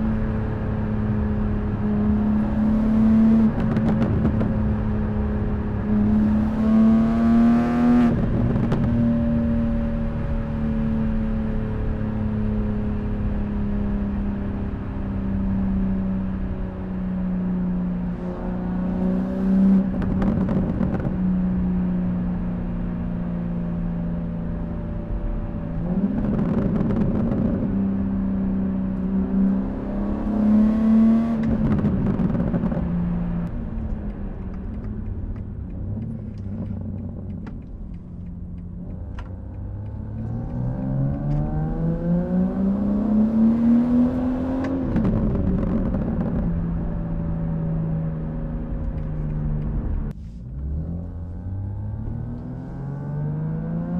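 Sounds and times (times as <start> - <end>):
car engine revving: 0.0 - 11.6, 17.6 - 21.8, 23.8 - 53.9
car engine and exhaust cruising: 0.0 - 53.9.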